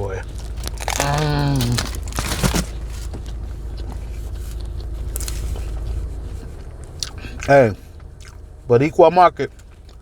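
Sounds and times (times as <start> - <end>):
steady low rumble: 0.0 - 10.0
biting and chewing sandwich: 0.2 - 8.4.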